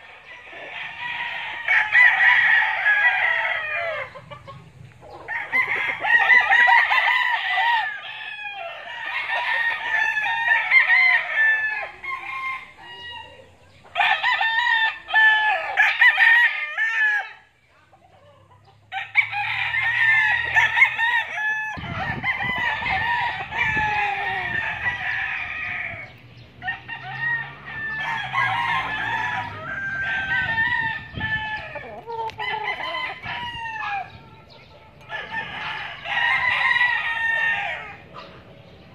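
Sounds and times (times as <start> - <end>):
roosters crowing: 0.0 - 38.9.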